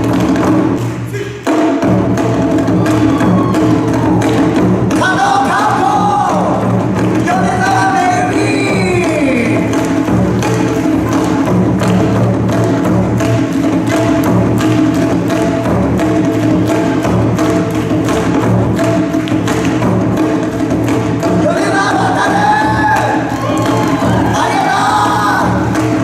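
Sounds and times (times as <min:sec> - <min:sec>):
fast clicking percussion beat: 0:00.0 - 0:26.0.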